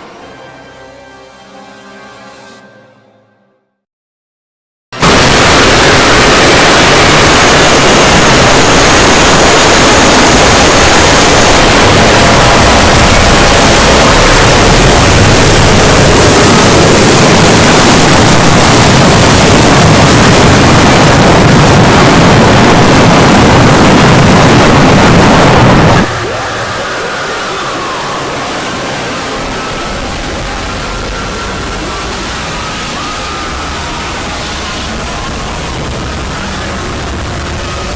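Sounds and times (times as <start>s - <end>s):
harsh distorted noise blast: 5.0s - 37.9s.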